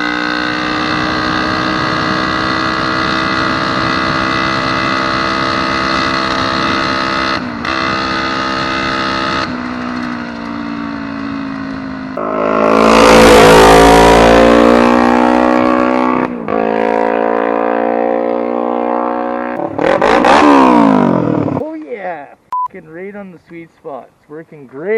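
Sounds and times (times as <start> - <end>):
dirt bike engine revving high: 0.0 - 9.9, 10.6 - 21.6.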